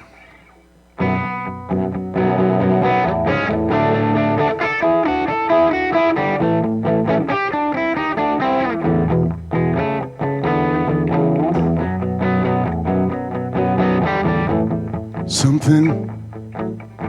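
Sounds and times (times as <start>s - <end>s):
blues guitar playing: 0.0s - 17.0s.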